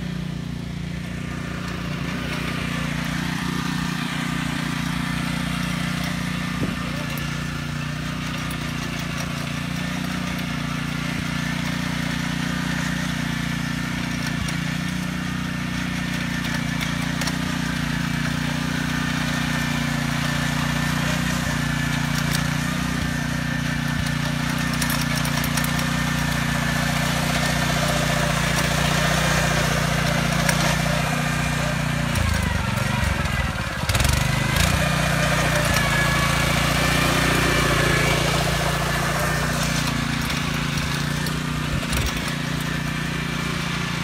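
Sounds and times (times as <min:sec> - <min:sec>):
tiller engine running: 0:00.0 - 0:44.0.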